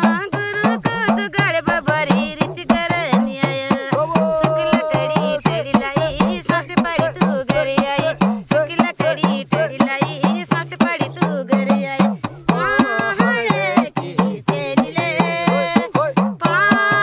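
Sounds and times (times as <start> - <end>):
quick percussion beat: 0.0 - 17.0
woman singing folk song: 0.0 - 17.0.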